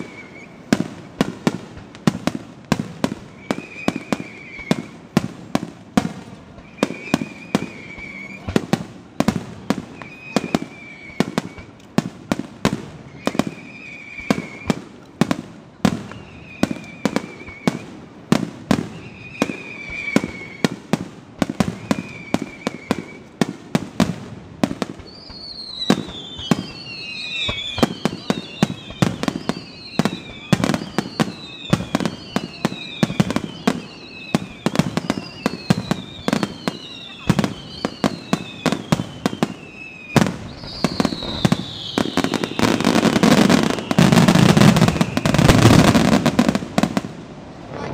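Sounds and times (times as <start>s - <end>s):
falling firework whistles: 0.0s - 47.2s
firework booms and cracks: 0.0s - 47.9s.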